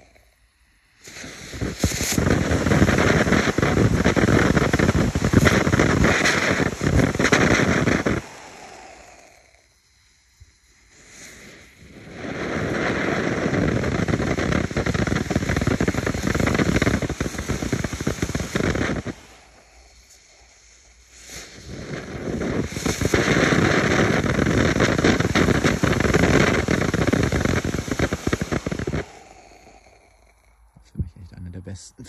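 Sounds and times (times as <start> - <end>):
firework fountain crackling: 0.0 - 30.4.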